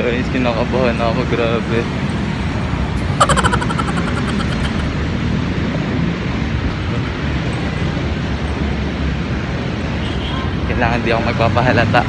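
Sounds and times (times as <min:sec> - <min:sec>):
city road traffic rumble: 0:00.0 - 0:03.3, 0:04.1 - 0:12.0.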